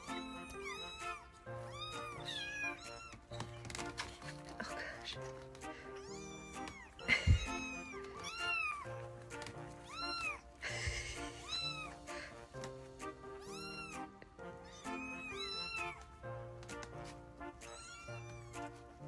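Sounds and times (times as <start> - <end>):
kittens mewing: 0.0 - 12.3, 13.3 - 16.1, 17.6 - 18.8
background music: 0.0 - 19.0.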